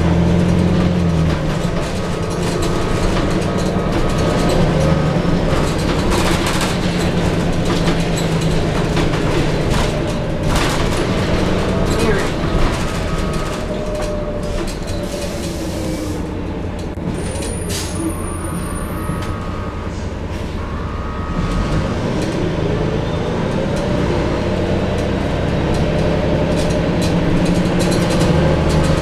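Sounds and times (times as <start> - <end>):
bus diesel engine and transmission: 0.0 - 29.0.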